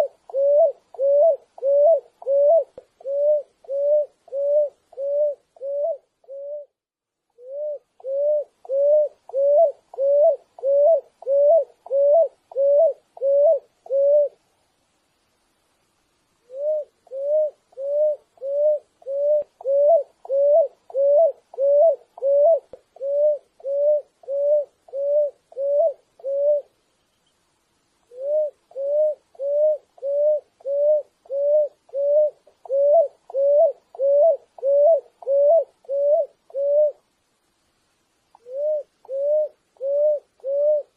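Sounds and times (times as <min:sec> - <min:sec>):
dove cooing: 0:00.0 - 0:06.8, 0:07.4 - 0:14.4, 0:16.5 - 0:26.8, 0:28.1 - 0:37.0, 0:38.4 - 0:40.9.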